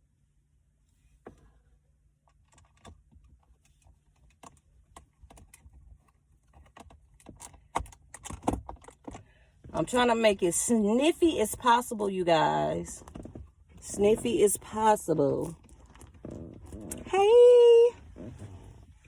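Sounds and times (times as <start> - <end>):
low steady hum: 0.0 - 8.1, 8.8 - 19.0.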